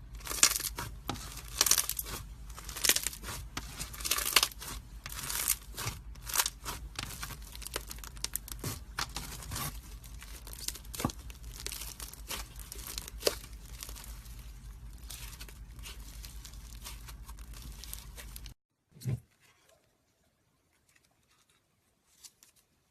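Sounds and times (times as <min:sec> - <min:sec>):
slime crackling and popping: 0:00.0 - 0:18.6.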